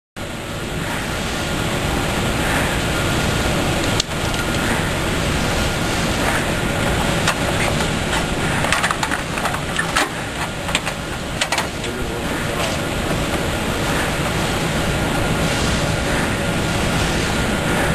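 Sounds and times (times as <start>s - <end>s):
machine running: 0.2s - 17.9s.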